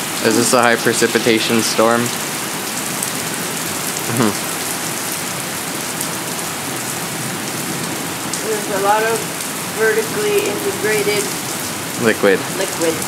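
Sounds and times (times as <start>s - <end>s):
heavy rain splashing: 0.0s - 13.0s.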